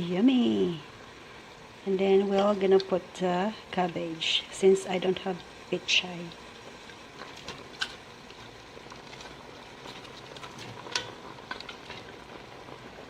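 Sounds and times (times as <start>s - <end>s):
soup boiling in a pot: 0.0s - 13.0s.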